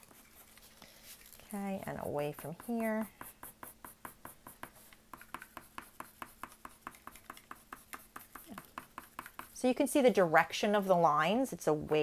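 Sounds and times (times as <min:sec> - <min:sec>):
pencil strokes on paper: 0:00.0 - 0:12.0.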